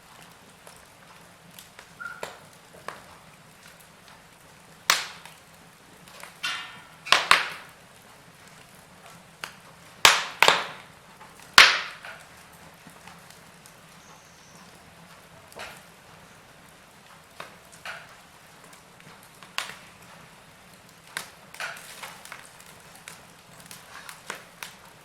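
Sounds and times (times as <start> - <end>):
faint steady hiss: 0.0 - 25.0
wood fire crackling: 0.0 - 25.0.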